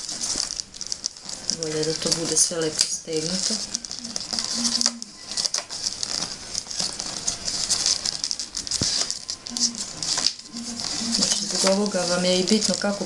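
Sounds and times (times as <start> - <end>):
newspaper rustling and crackling: 0.0 - 13.0.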